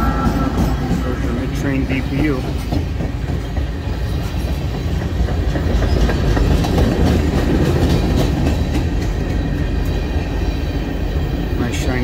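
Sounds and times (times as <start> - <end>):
train wheels rumbling on rail: 0.0 - 12.0
wheels clicking over rail joints: 0.0 - 12.0.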